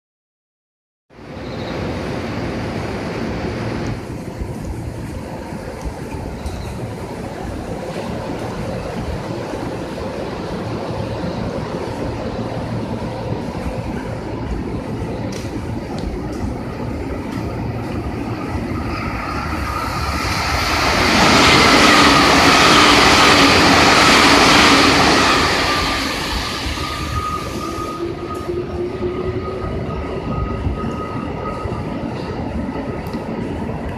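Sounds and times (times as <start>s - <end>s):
train passing rumble: 1.1s - 33.9s.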